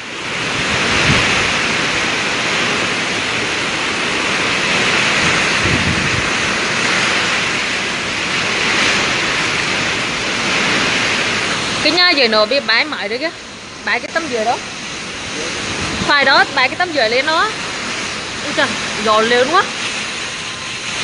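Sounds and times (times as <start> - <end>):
driving rain: 0.0 - 21.0
strong wind: 0.0 - 21.0.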